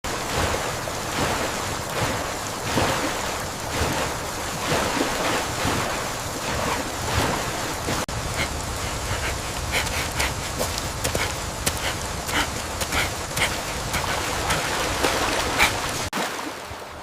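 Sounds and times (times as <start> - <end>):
wind noise: 0.0 - 16.1
floodwater rushing: 0.0 - 17.0.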